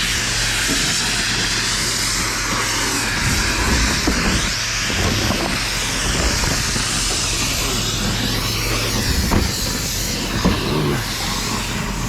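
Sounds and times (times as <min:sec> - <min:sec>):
broad hiss: 0:00.0 - 0:12.0
vehicle engine hum: 0:00.0 - 0:12.0.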